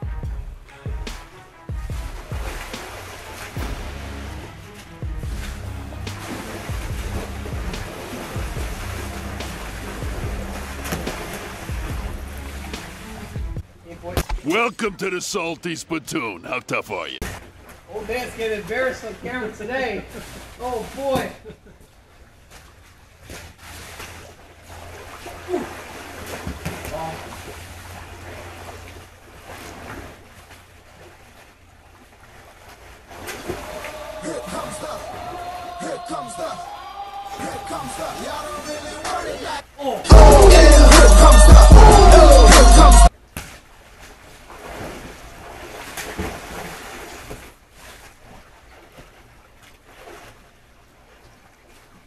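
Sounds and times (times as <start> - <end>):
pool water splashing: 0.0 - 52.0.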